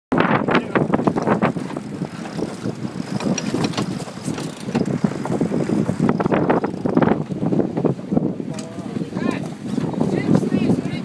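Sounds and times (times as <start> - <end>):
water rushing along hull: 0.1 - 11.0
wind buffeting microphone: 0.1 - 11.0.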